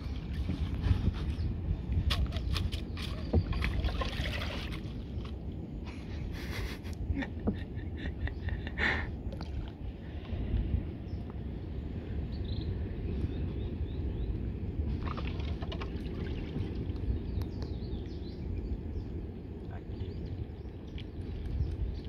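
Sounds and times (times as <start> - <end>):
low wind rumble on microphone: 0.0 - 22.0.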